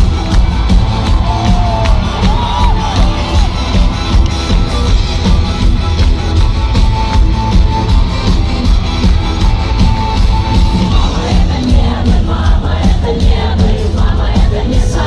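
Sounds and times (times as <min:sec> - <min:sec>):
crowd cheering and shouting: 0:00.0 - 0:15.0
heavy bass: 0:00.0 - 0:15.0
keyboards: 0:00.0 - 0:15.0
steady drum beat: 0:00.0 - 0:15.0.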